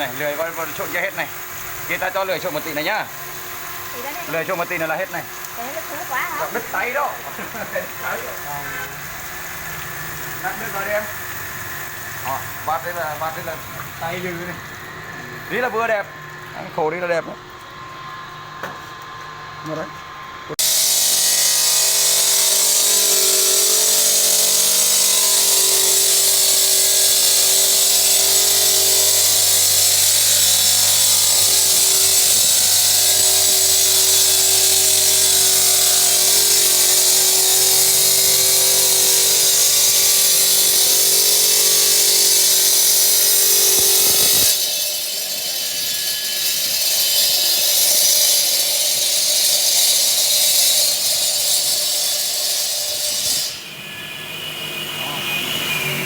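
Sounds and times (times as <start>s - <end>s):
stone cutting wheel grinding: 0.0s - 18.8s, 20.5s - 56.0s.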